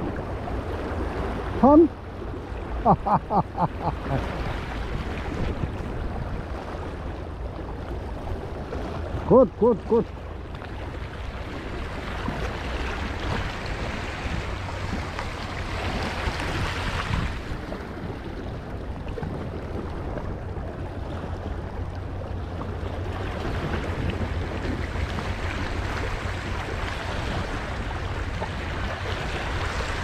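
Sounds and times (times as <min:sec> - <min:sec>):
wind buffeting microphone: 0:00.0 - 0:09.3, 0:10.7 - 0:30.0
waves lapping over rock: 0:00.0 - 0:30.0.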